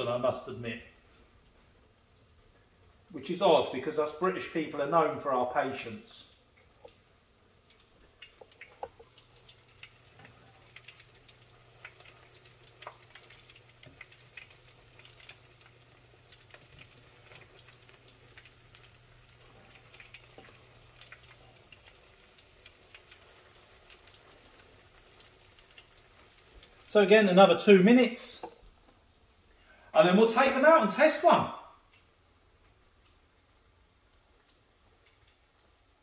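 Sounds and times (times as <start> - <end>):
deep-frying sizzle and crackles: 0.0 - 4.6, 6.2 - 31.1, 31.8 - 36.0.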